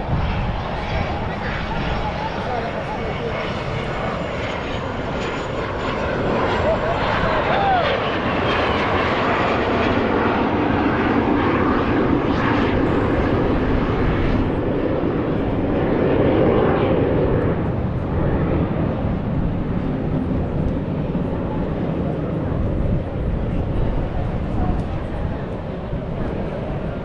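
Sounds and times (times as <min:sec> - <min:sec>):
airplane flying overhead: 0:00.0 - 0:27.0.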